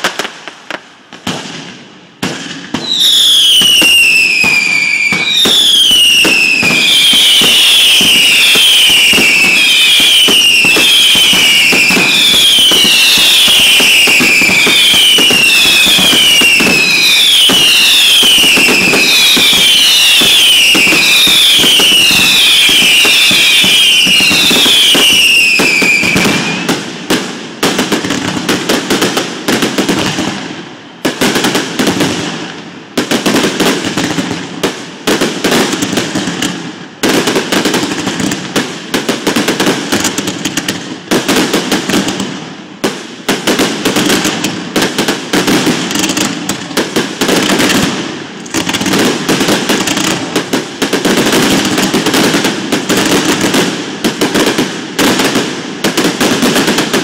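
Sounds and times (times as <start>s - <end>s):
firework crackles: 0.0s - 57.0s.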